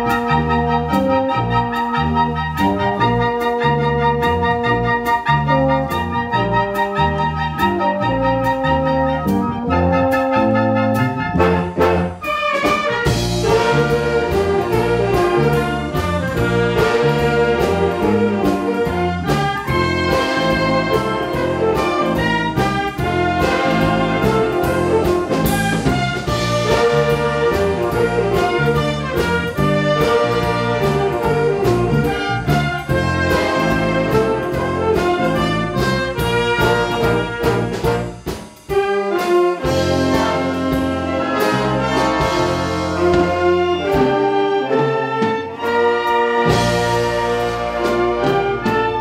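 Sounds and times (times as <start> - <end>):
wind orchestra playing: 0.0 - 49.0.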